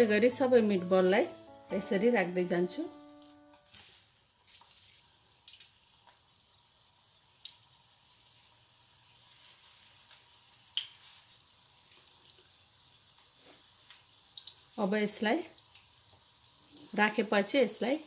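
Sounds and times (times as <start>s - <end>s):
oil sizzling: 0.0s - 18.0s.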